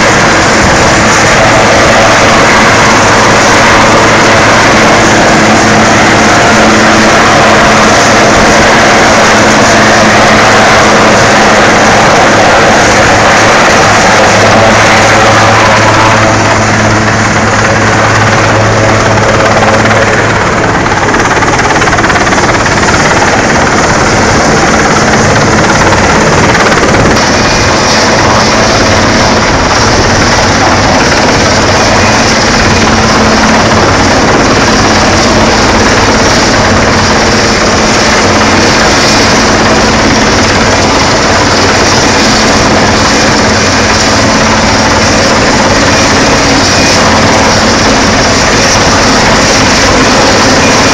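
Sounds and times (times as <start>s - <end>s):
helicopter rotor and engine: 0.0s - 50.9s.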